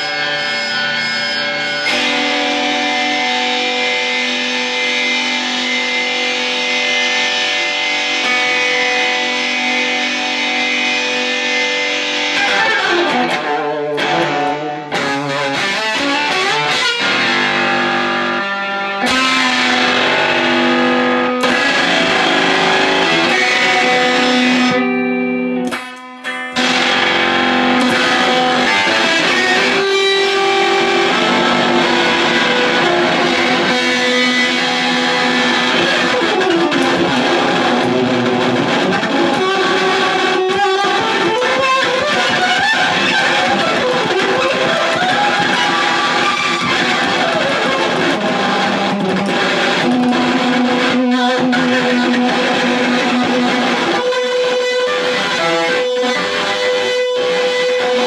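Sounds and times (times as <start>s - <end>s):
electric guitar notes: 0.0s - 58.0s.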